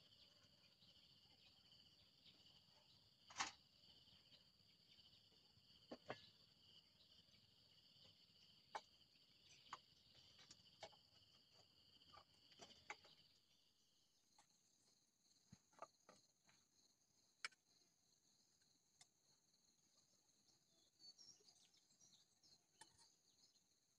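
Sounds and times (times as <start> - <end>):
insects droning: 0.0 - 23.9.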